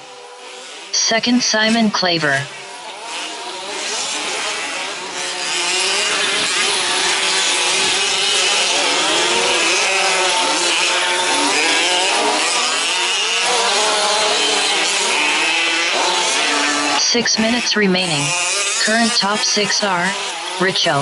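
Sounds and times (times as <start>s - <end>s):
small two-stroke engines revving: 0.0s - 21.0s.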